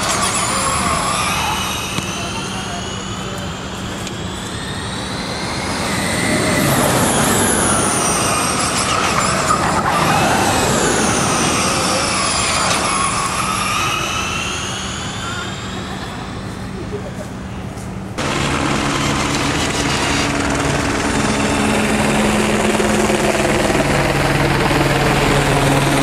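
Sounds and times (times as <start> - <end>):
race cars passing with electric whine: 0.0 - 26.0.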